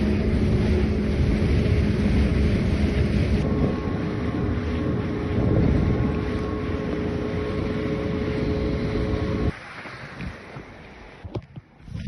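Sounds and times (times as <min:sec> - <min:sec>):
watercraft engine whine: 0:00.0 - 0:11.3
rushing water: 0:00.0 - 0:12.0
wind on microphone: 0:00.0 - 0:12.0.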